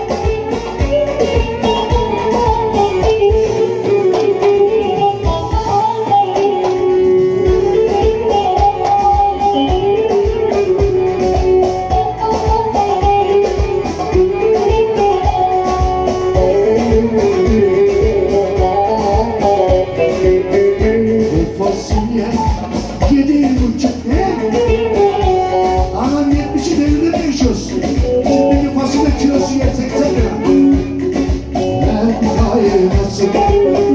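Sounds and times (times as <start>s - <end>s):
folk band playing: 0.0s - 33.9s
hand drum beat: 0.0s - 33.9s.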